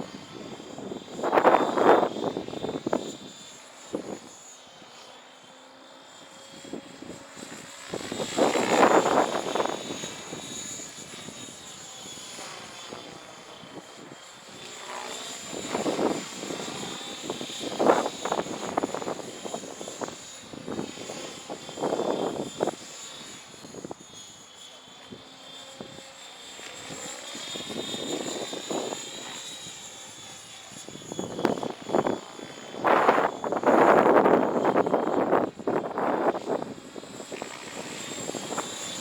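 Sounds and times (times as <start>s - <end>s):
rc helicopter motor whine: 0.0s - 39.0s.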